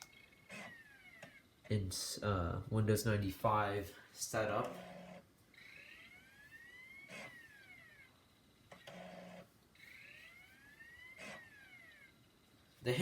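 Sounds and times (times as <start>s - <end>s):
disc drive whining: 0.0s - 1.9s, 4.3s - 13.0s.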